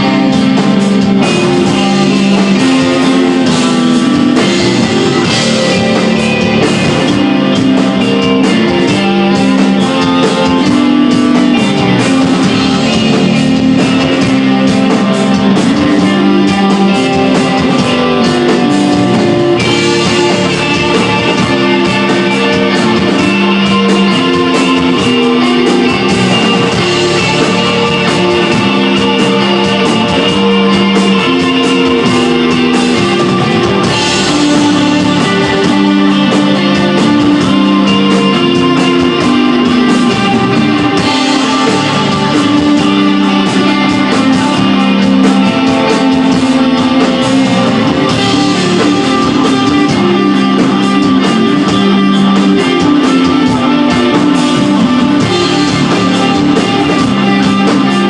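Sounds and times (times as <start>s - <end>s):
bass guitar: 0.0s - 58.0s
drums: 0.0s - 58.0s
electric guitar sustained notes: 0.0s - 58.0s.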